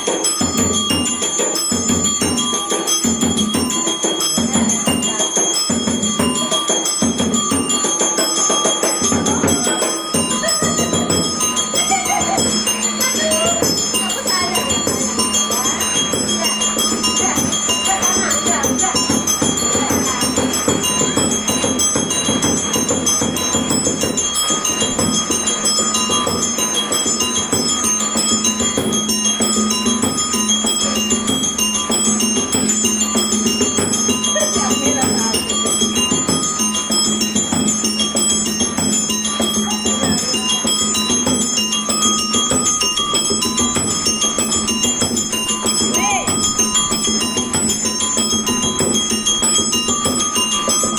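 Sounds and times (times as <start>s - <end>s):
chiming mallet percussion melody: 0.0s - 50.9s.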